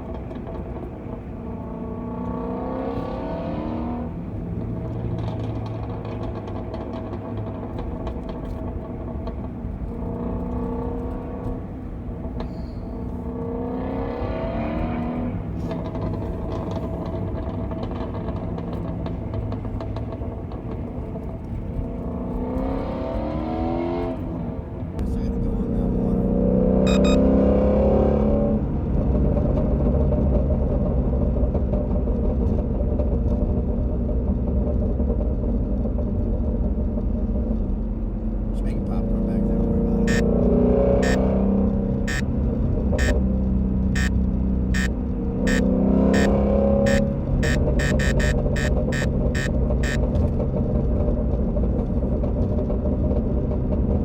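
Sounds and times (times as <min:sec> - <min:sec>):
car engine cruising and revving: 0:00.0 - 0:54.0.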